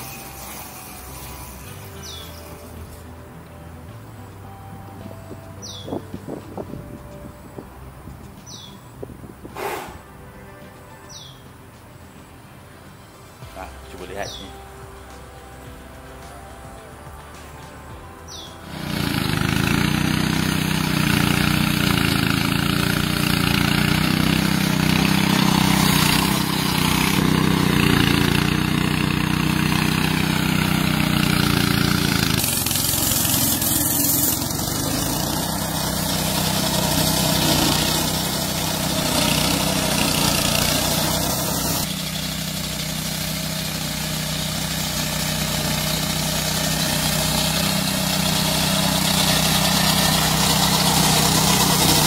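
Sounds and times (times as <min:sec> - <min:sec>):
lawn mower engine running: 0:00.0 - 0:10.2, 0:18.2 - 0:52.0.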